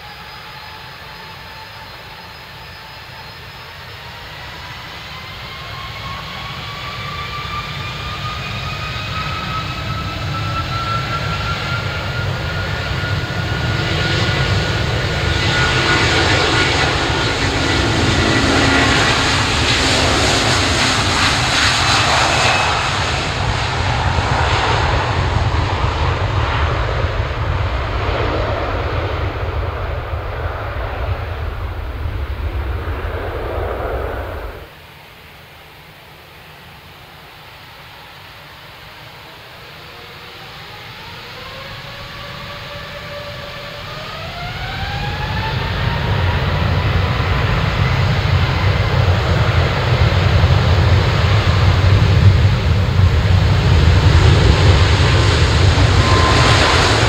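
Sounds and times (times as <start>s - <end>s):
jet roar: 0.0s - 35.6s, 36.2s - 57.0s
jet engines whining: 0.0s - 57.0s.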